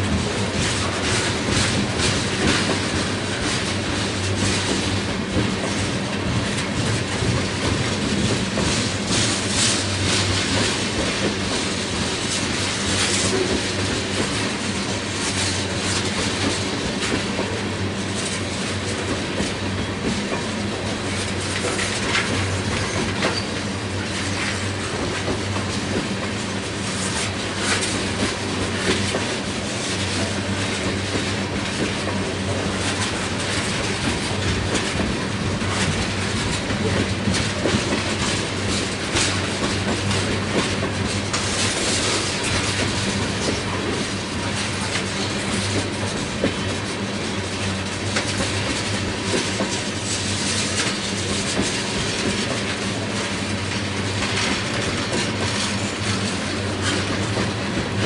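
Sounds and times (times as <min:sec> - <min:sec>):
train rumble: 0:00.0 - 0:58.0
train wheels clicking over rail joints: 0:00.0 - 0:58.0.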